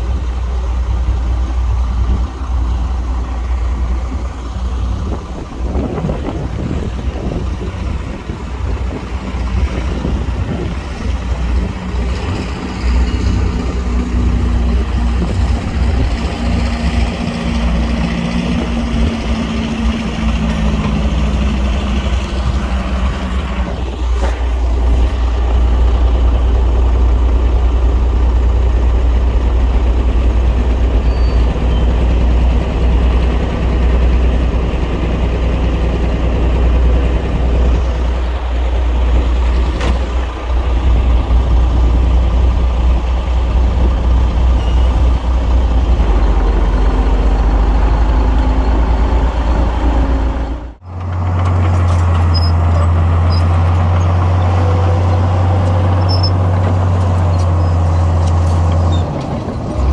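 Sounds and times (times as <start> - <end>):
heavy diesel engine rumbling: 0.0 - 59.9.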